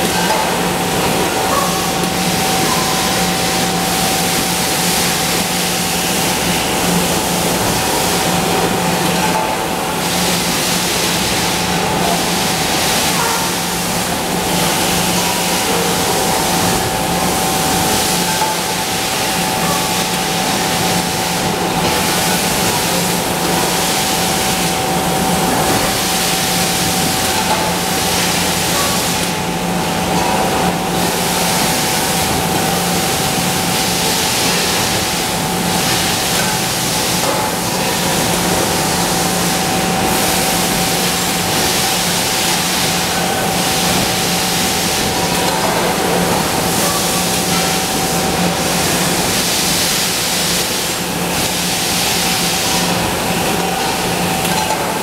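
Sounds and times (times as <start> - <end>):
factory machinery din: 0.0 - 55.0.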